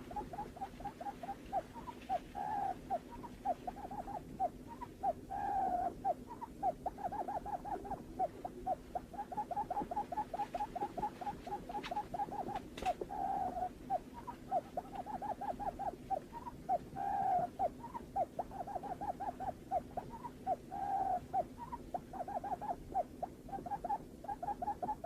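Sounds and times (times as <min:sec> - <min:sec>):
buttonquail hooting calls: 0:00.0 - 0:25.0.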